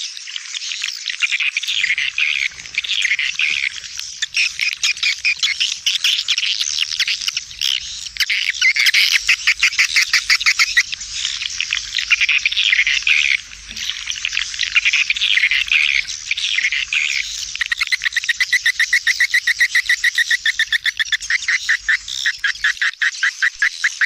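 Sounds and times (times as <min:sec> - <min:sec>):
swiftlet chirps and twitters: 0:01.7 - 0:24.0.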